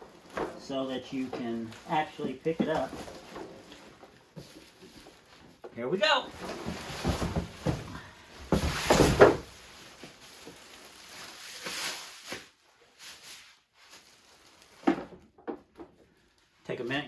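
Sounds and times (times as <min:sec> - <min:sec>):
cardboard packaging rustling: 0:00.0 - 0:16.6.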